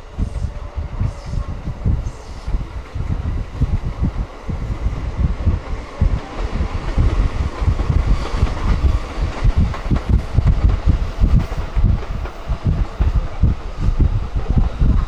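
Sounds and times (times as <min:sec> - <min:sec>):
low buffeting: 0:00.0 - 0:15.0
train wheels rumbling on track: 0:00.0 - 0:15.0.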